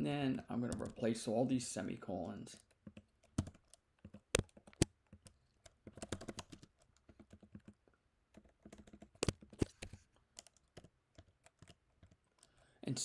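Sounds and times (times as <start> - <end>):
typing on computer keyboard: 0.6 - 1.1, 2.6 - 12.6.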